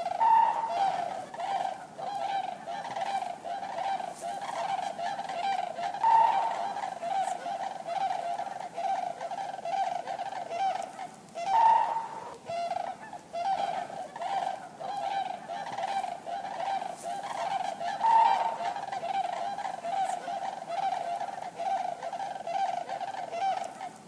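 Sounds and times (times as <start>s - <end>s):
cranes calling: 0.0s - 24.0s.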